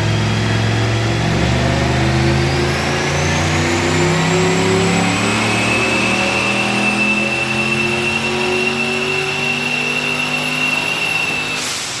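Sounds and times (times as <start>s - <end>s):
engine running under load: 0.0s - 12.0s
turbo whistle: 1.8s - 12.0s.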